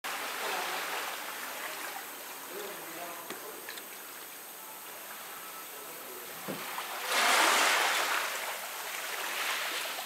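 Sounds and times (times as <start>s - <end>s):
shallow water rushing and splashing: 0.0s - 10.0s.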